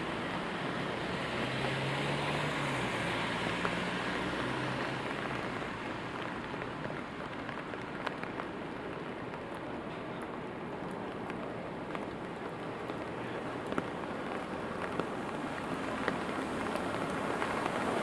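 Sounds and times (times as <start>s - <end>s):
steady rainfall: 0.0s - 18.0s
vehicle hum on wet street: 0.0s - 18.0s
raindrops ticking: 0.2s - 18.0s.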